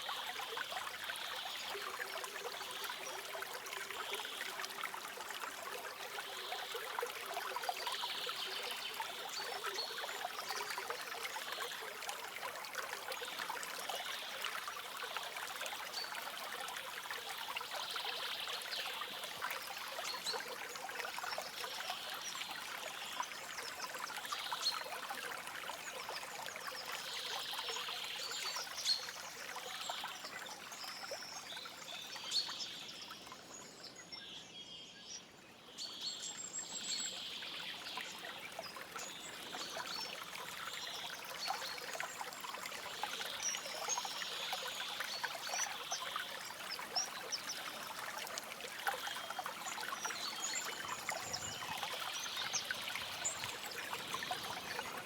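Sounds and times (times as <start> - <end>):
stream trickling over stones: 0.0 - 34.4, 35.1 - 55.0.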